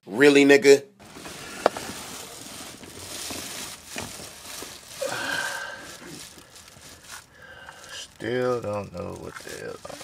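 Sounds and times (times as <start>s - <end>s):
hands rustling wiring: 1.0s - 10.0s.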